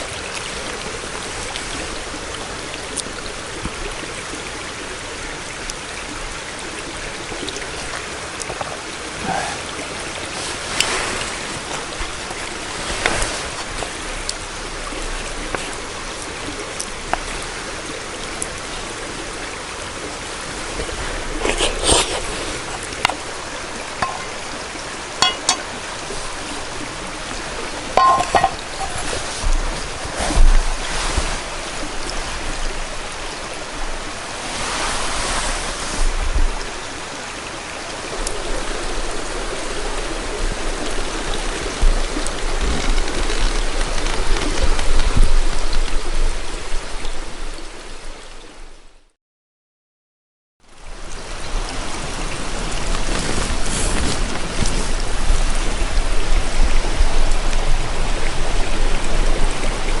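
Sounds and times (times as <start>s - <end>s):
flowing water rushing: 0.0s - 49.0s, 50.7s - 60.0s.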